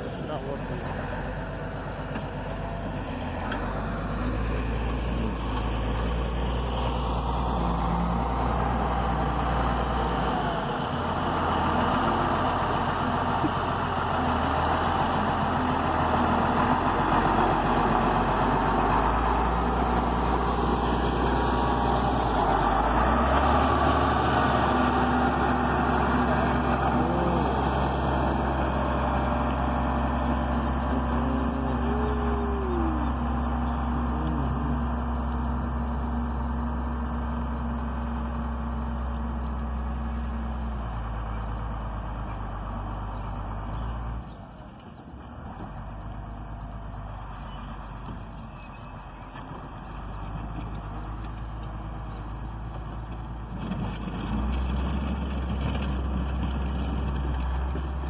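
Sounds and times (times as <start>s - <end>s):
motor grader diesel engine: 0.0s - 58.0s.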